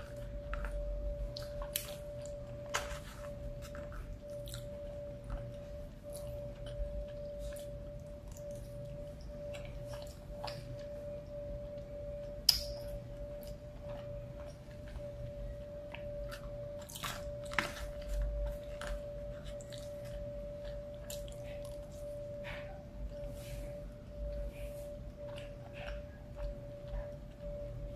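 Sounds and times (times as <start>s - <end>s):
steady faint tone: 0.0s - 27.9s.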